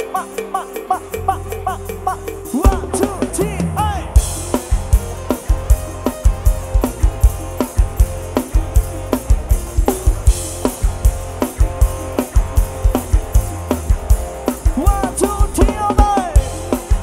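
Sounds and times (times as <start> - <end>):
guitar: 0.0 - 17.0
fast kick drum beat: 2.5 - 17.0.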